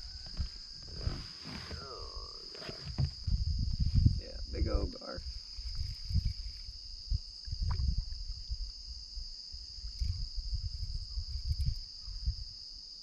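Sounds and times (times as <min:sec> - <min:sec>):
crickets and insects trilling: 0:00.0 - 0:13.0.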